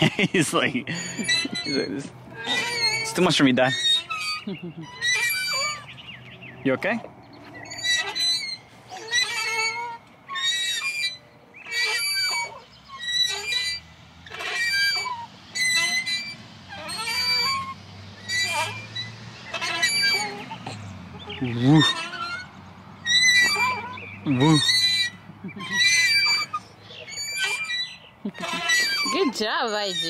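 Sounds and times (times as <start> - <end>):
playground swing squeaking: 0.0 - 30.0.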